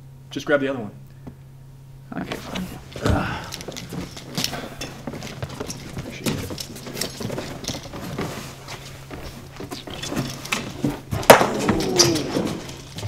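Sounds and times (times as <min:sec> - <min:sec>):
footsteps: 0:02.2 - 0:13.0
cardboard boxes scuffing and knocking: 0:02.3 - 0:13.0.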